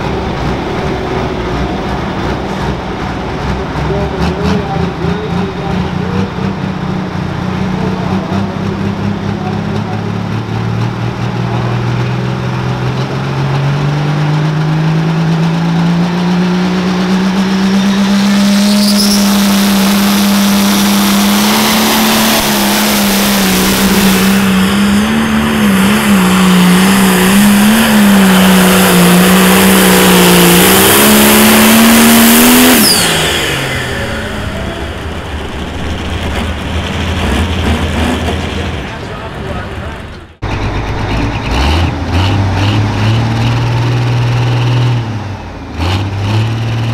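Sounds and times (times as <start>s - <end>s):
diesel tractor engine at full throttle: 0.0s - 46.9s.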